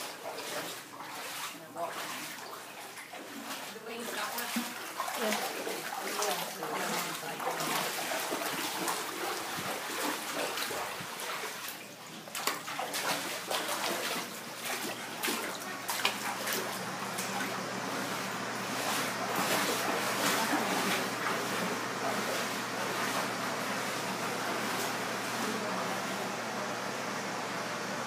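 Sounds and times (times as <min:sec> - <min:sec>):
floodwater rushing: 0:00.0 - 0:26.9
water splashing: 0:00.0 - 0:26.9.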